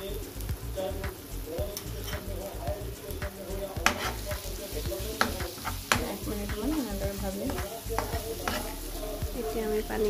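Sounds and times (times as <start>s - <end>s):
masala sizzling in a pan: 0.0s - 10.0s
metal spoon scraping a pan: 1.7s - 10.0s.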